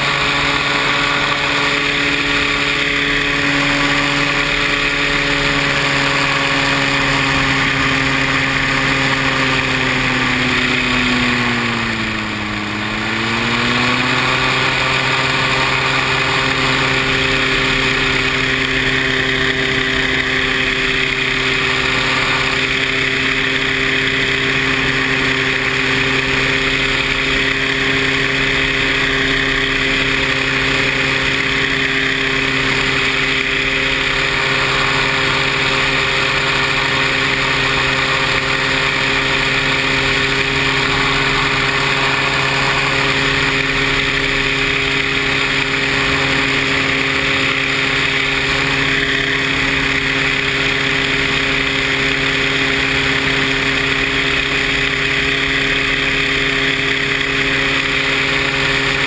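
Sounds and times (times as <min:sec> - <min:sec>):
paramotor engine drone: 0:00.0 - 0:59.0.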